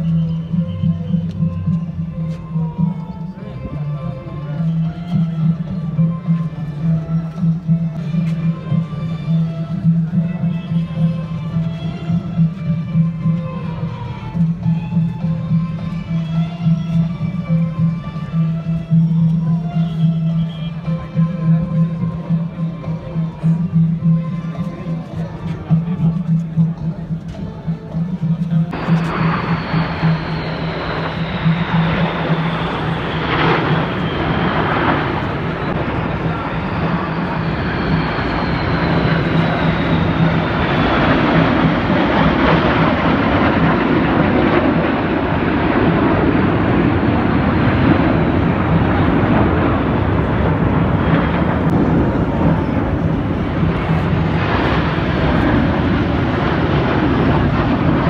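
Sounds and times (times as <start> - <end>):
jet aircraft flying over: 0.0 - 58.0.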